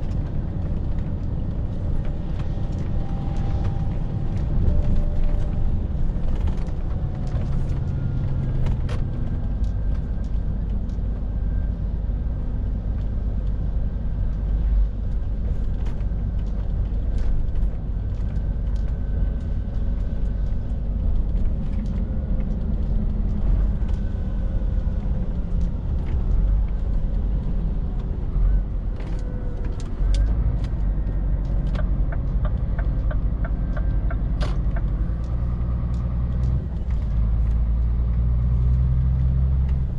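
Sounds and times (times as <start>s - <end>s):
lorry diesel engine running: 0.0s - 39.9s.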